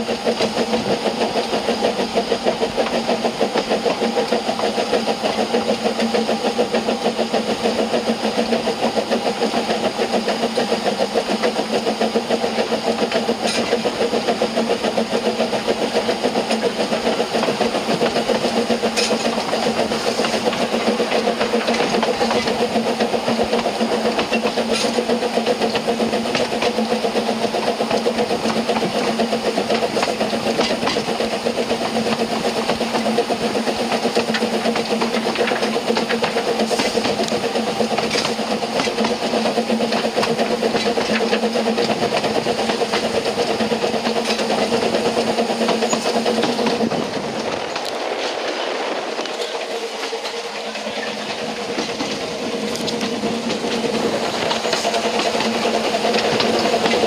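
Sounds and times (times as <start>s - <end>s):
steam locomotive exhaust beating: 0.0s - 57.0s
train wheels on rails: 0.0s - 57.0s.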